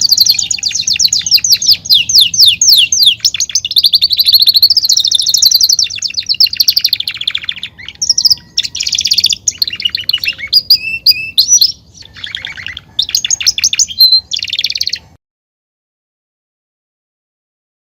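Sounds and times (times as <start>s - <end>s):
canary singing trills: 0.0s - 15.2s.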